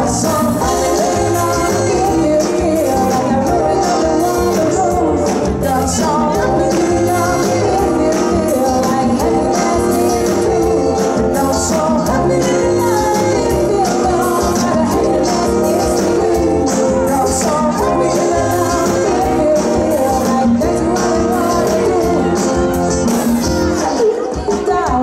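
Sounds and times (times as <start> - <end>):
live band playing: 0.0 - 25.0
person singing: 0.0 - 25.0.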